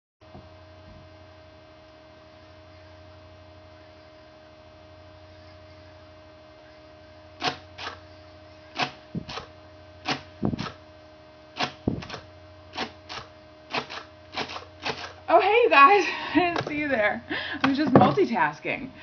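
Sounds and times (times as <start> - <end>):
steady electrical hum: 0.2 - 19.0.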